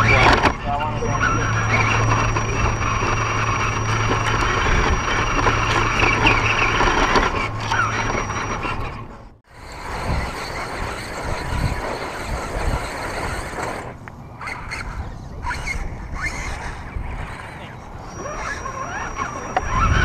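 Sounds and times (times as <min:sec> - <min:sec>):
electric motor humming: 0:00.0 - 0:20.0.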